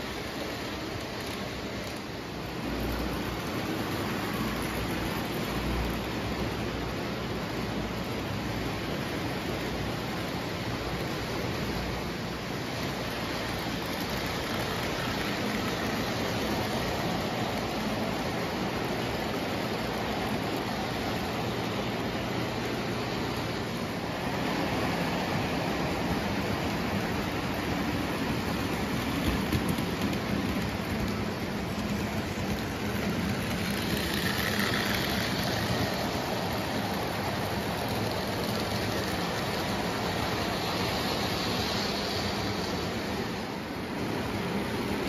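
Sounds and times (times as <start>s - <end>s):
toy train wheels rumbling on track: 0.0s - 45.0s.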